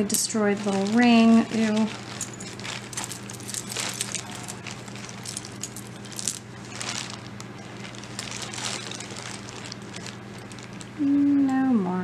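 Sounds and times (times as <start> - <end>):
metal jewelry clinking: 0.0 - 11.0
faint low hum: 0.0 - 12.0.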